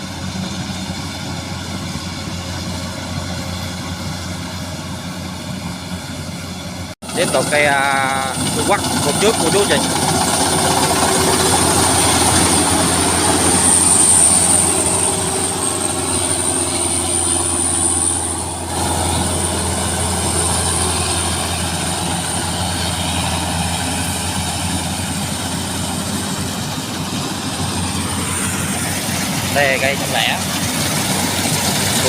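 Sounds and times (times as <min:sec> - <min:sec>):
combine harvester drone: 0:00.0 - 0:32.0
high machinery whine: 0:00.0 - 0:32.0.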